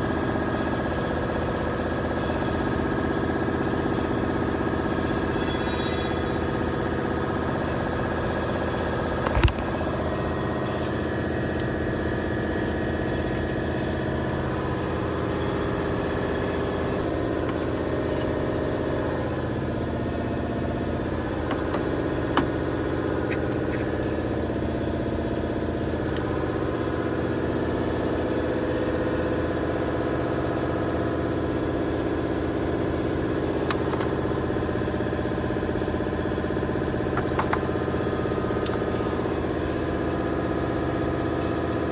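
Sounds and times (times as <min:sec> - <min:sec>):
car engine idling: 0:06.4 - 0:41.8.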